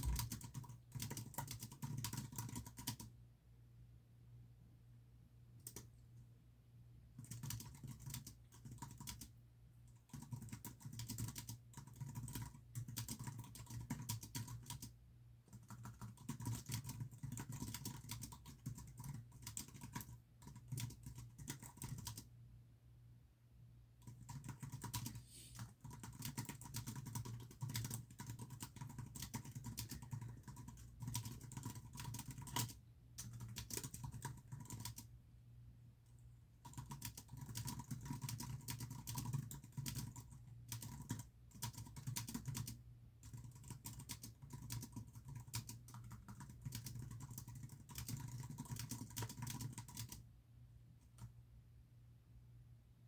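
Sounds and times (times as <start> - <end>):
typing on computer keyboard: 0.0 - 3.1, 5.6 - 6.0, 7.2 - 22.3, 24.0 - 35.1, 36.6 - 50.3.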